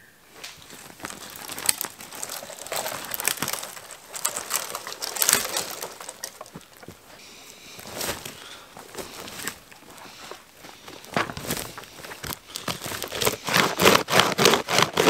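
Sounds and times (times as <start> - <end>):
dry twigs crackling through grass: 0.3 - 15.0.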